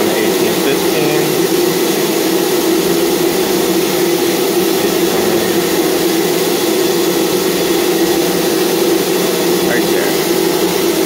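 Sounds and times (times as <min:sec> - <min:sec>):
machinery droning: 0:00.0 - 0:11.0.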